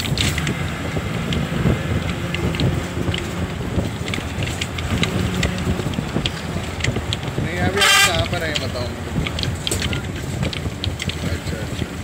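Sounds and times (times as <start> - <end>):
small clicks and rattles: 0.0 - 12.0
vehicle engine and road noise: 0.0 - 12.0
wind on microphone: 0.0 - 12.0.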